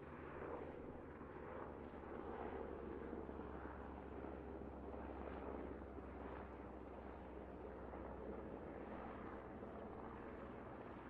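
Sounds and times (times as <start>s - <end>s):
helicopter flying: 0.0s - 11.0s.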